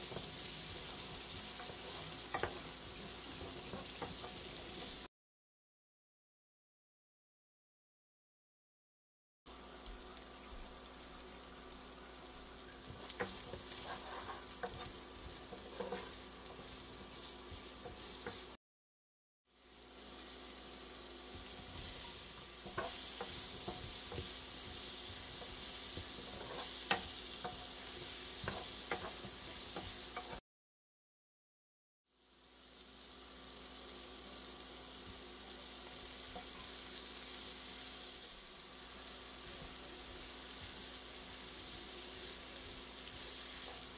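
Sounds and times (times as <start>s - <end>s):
vegetables sizzling in a frying pan: 0.0s - 5.1s, 9.5s - 18.6s, 19.5s - 30.4s, 32.1s - 43.9s.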